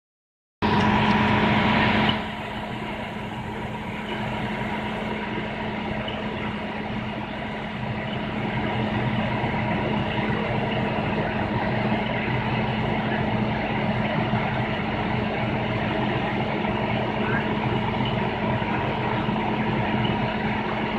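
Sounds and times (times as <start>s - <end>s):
fire engine idling: 0.6s - 20.9s.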